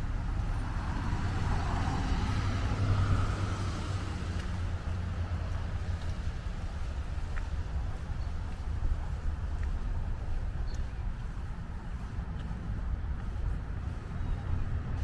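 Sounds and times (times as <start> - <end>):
car tyre noise passing: 0.0 - 15.0
steady low rumble: 0.0 - 15.0.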